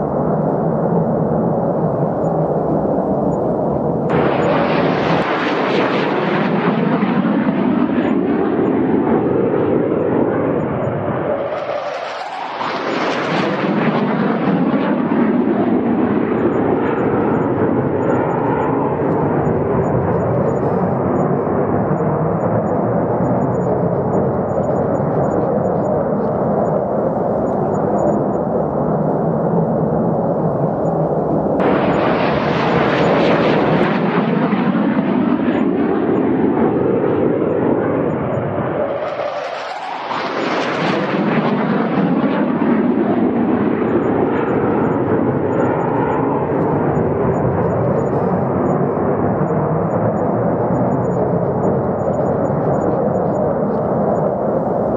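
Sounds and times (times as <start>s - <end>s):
fighter jets roaring overhead: 0.0s - 54.9s.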